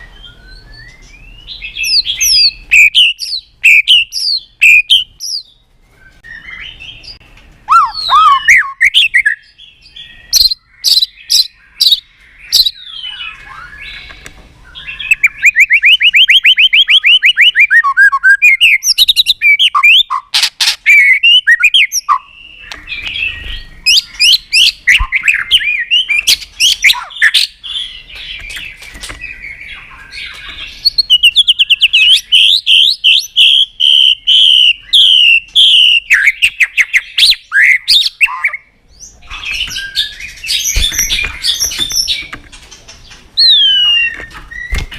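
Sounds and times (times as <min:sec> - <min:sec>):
bird singing trills and whistles: 0:00.0 - 0:44.9
sharp clicking bird calls: 0:00.8 - 0:05.5, 0:07.0 - 0:44.9.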